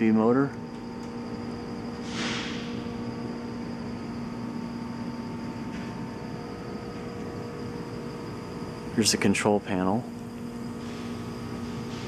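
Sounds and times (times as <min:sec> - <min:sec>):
electric machinery humming: 0:00.0 - 0:12.0.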